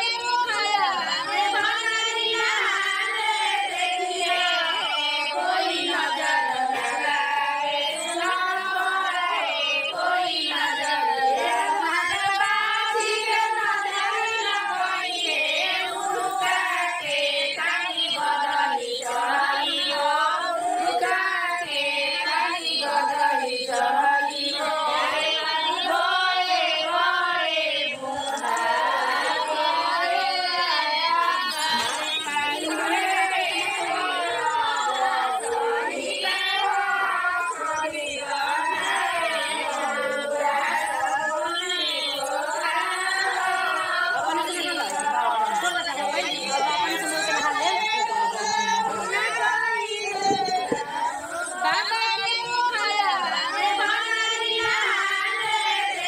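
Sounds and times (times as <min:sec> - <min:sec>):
women singing: 0:00.0 - 0:56.0.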